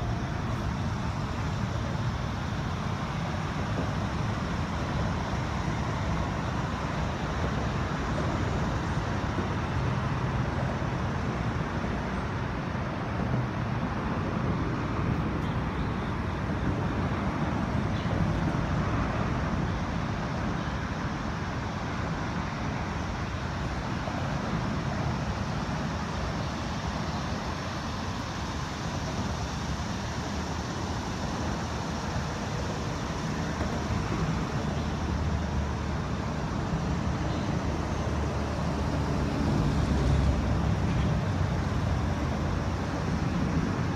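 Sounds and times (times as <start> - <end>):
highway traffic rumble: 0.0 - 43.9.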